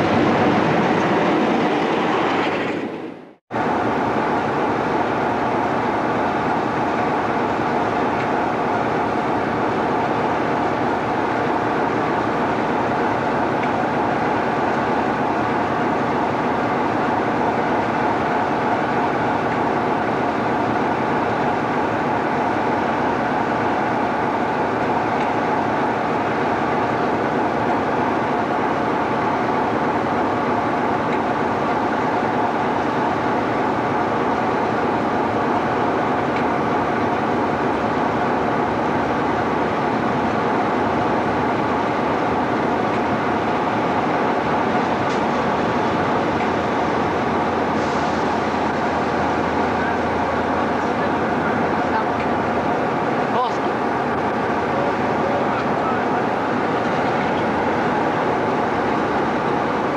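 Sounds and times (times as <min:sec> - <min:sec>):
diesel locomotive engine running: 0:00.0 - 0:59.9.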